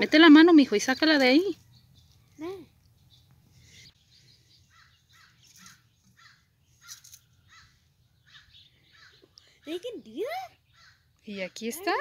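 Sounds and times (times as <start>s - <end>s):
faint bird calls: 2.1s - 11.8s.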